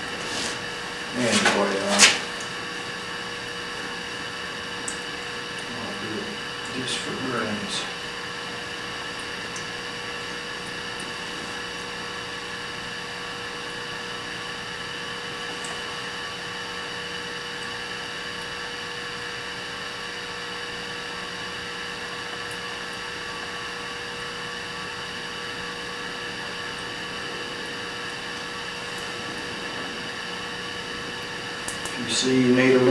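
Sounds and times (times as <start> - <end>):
welding torch hiss and hum: 0.0 - 17.9, 23.2 - 32.9.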